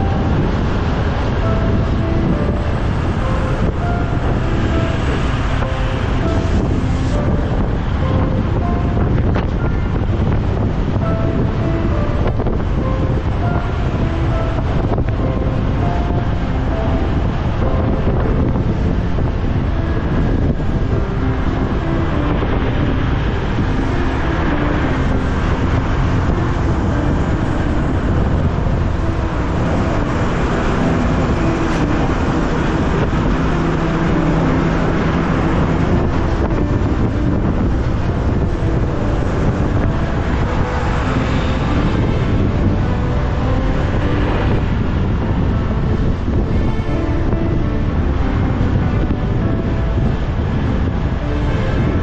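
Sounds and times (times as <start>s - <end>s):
low drone of engines: 0.0s - 52.0s
passing traffic: 0.0s - 52.0s
wind rushing over microphone: 0.0s - 52.0s.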